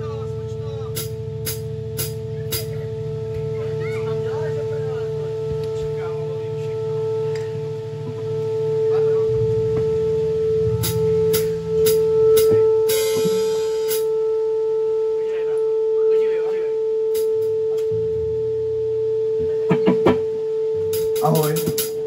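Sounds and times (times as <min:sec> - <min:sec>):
low held notes: 0:00.0 - 0:22.0
steady single tone: 0:00.0 - 0:22.0.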